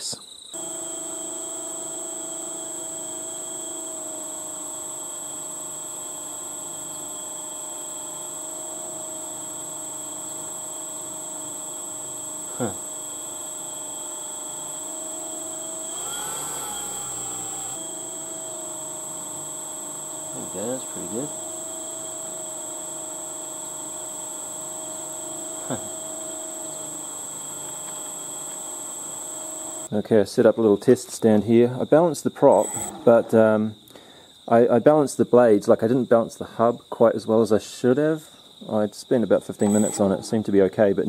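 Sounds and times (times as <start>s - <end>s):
high-pitched electrical whine: 0.0s - 30.1s, 31.7s - 33.8s, 39.1s - 41.0s.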